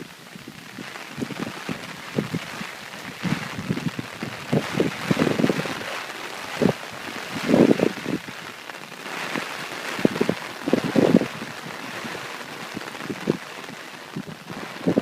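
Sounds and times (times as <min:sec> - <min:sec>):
heavy rain hissing: 0:00.0 - 0:15.0
wind buffeting microphone: 0:00.2 - 0:15.0.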